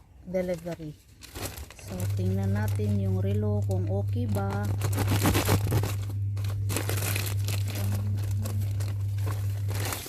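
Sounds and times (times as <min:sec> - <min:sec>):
low hum: 0:00.0 - 0:10.0
plastic packaging crinkling: 0:00.3 - 0:10.0.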